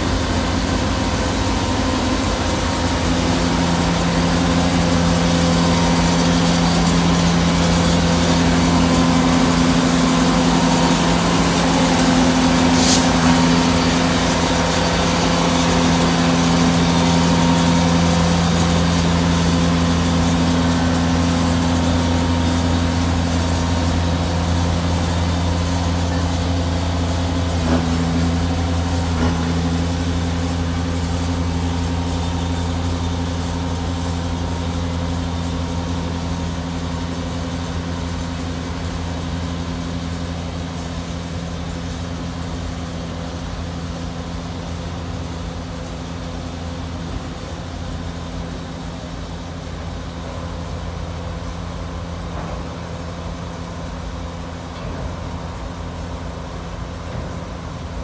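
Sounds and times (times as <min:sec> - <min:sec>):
diesel engine drone: 0:00.0 - 0:58.0
rail cars knocking: 0:00.0 - 0:58.0.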